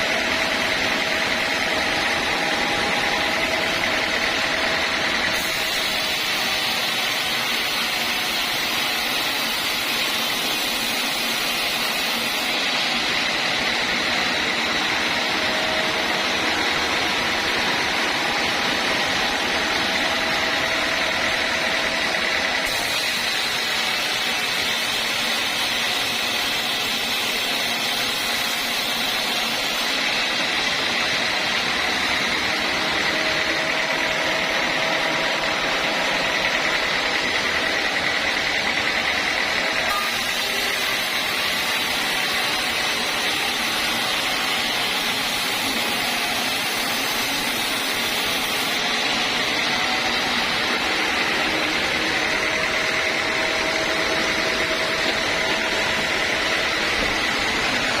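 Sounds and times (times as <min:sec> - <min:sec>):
band sawmill sawing log: 0:00.0 - 0:58.0.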